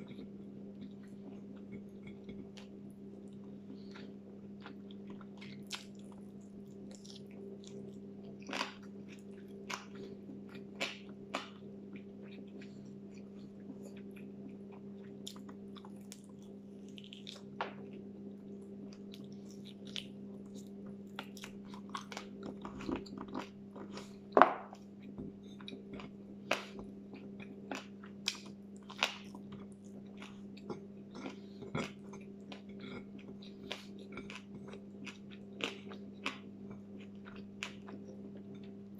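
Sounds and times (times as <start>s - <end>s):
person chewing meat off bone: 0.0s - 38.9s
steady low hum: 0.0s - 38.9s.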